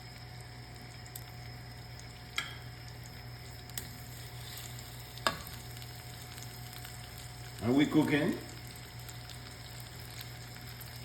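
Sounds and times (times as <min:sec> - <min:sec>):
fish sizzling in a pan: 0:00.0 - 0:11.0.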